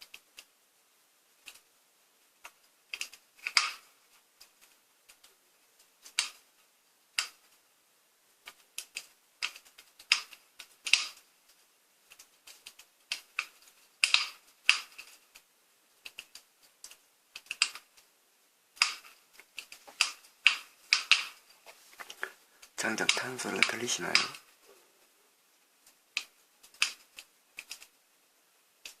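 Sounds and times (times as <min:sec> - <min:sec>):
firewood crackling and popping: 0:02.4 - 0:07.7, 0:08.3 - 0:24.6, 0:25.8 - 0:28.0.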